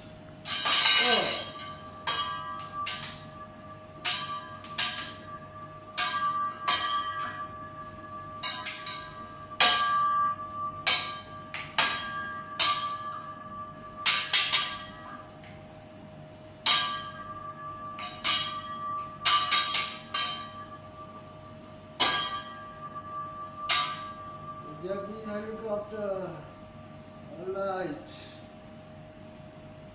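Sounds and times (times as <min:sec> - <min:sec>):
metal spatula clanging: 0:00.4 - 0:15.3, 0:16.6 - 0:25.9.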